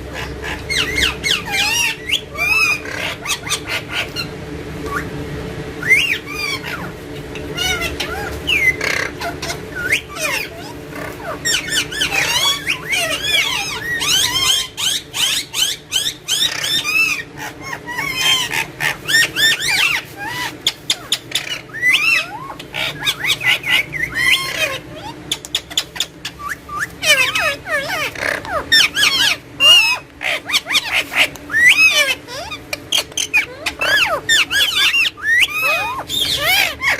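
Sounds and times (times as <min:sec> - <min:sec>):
parrot squawking and whistling: 0:00.0 - 0:05.2, 0:05.8 - 0:36.9.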